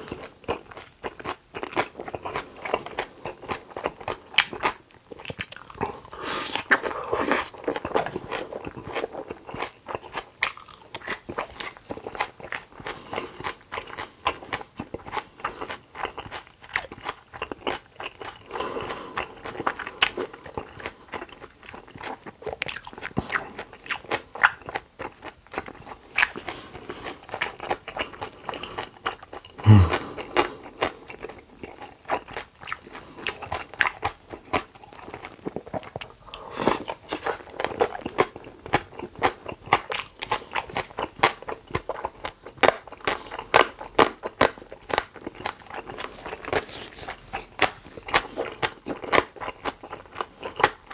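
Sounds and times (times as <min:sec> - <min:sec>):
crunching and chewing food: 0:00.0 - 0:50.9.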